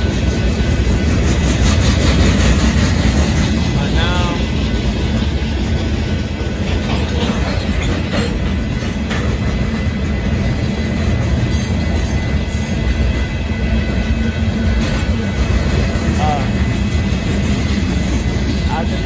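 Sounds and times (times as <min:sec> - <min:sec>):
train wheels rumbling on rail: 0:00.0 - 0:19.0
wheels clicking over rail joints: 0:00.0 - 0:19.0.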